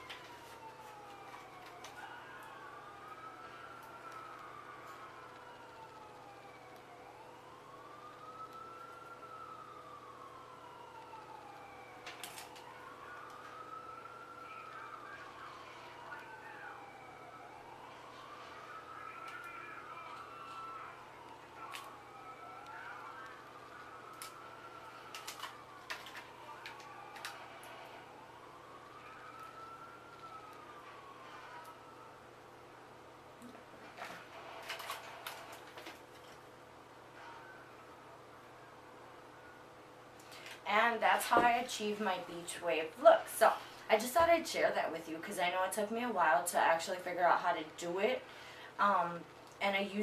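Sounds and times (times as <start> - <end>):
faint emergency siren wailing: 0.0 - 50.0.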